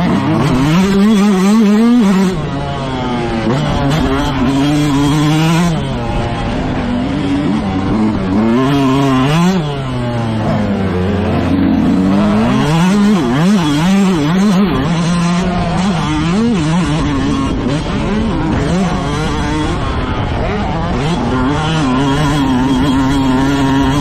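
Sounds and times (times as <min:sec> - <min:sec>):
racing engine revving: 0:00.0 - 0:24.0.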